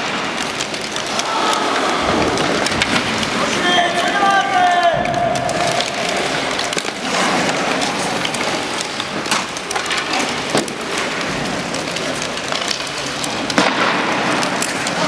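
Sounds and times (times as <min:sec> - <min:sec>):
hiss of ice hockey play: 0:00.0 - 0:15.0
sticks and puck clicking on ice: 0:00.0 - 0:15.0.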